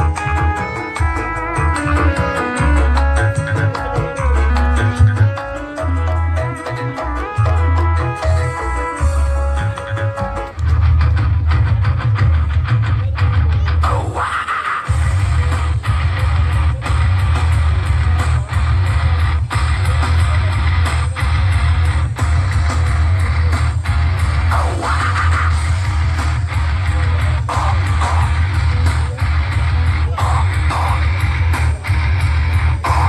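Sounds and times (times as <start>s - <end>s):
pounding bass line: 0.0s - 14.3s, 14.9s - 33.0s
loud rock music: 0.0s - 33.0s.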